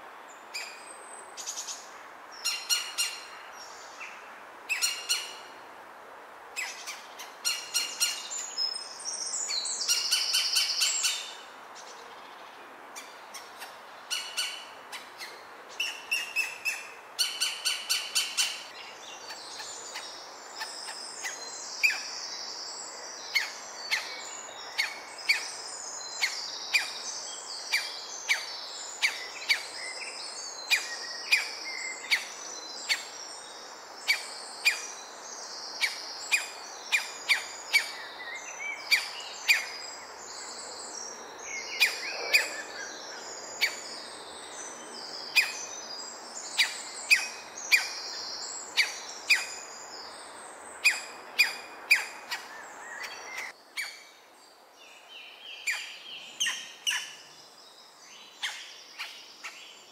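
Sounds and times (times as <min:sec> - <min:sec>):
songbirds singing: 0:00.0 - 0:05.7, 0:06.5 - 0:59.9.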